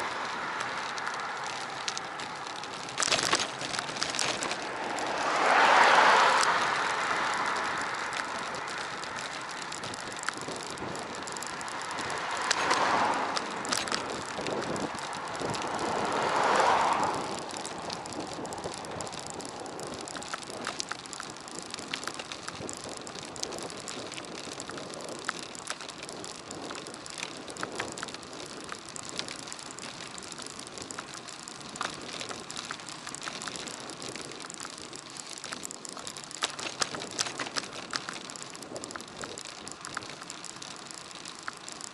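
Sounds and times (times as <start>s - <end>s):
bicycle clicks and rattles: 0.0s - 41.9s
bicycle tyre and air noise: 0.0s - 41.9s.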